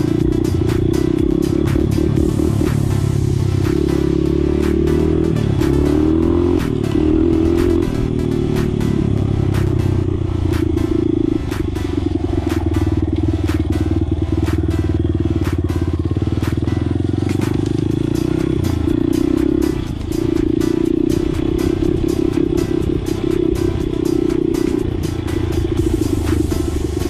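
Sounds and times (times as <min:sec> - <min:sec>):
motorcycle engine under throttle: 0:00.0 - 0:27.0.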